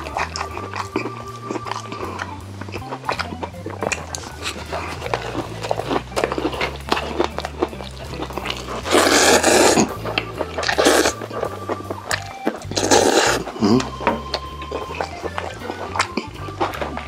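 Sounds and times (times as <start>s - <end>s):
background music with bass line: 0.0s - 17.0s
chewing with wet mouth clicks: 0.0s - 17.0s
slurping noodles: 0.0s - 17.0s.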